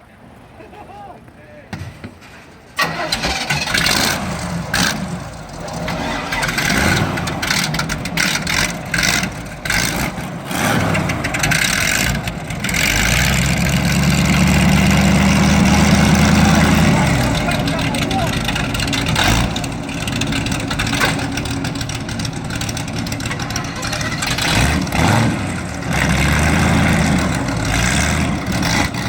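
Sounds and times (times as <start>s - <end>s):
airboat engines revving: 2.8s - 29.0s
propeller wash: 2.8s - 29.0s.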